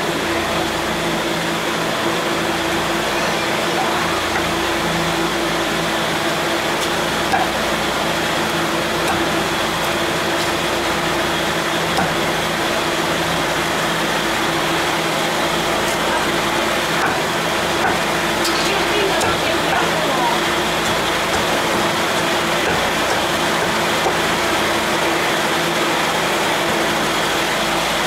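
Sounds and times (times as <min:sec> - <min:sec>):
machine hum with hiss: 0:00.0 - 0:28.0.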